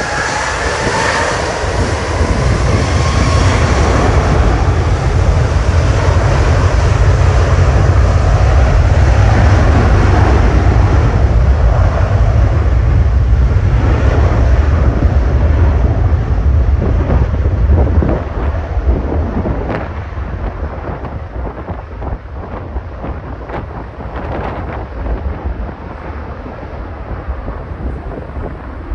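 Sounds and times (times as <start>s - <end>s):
jet engine in afterburner: 0.0s - 28.9s.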